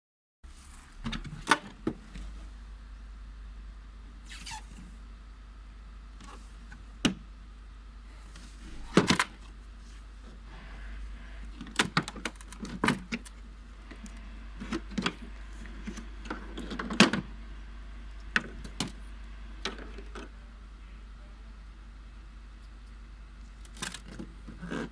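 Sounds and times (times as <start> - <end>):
steady low hum: 0.5 - 24.9.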